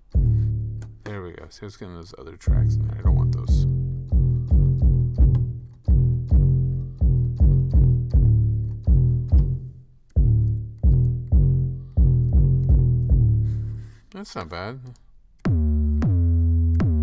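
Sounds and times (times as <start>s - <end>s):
plucked bass line: 0.0s - 1.3s, 2.5s - 13.9s, 15.4s - 17.0s.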